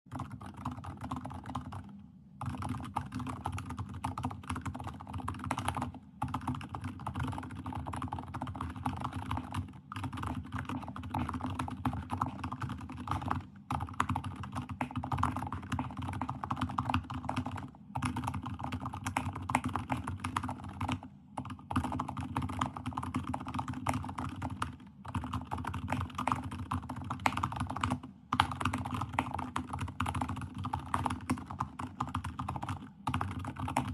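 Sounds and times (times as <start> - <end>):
fast typing on keyboard: 0.1 - 33.9.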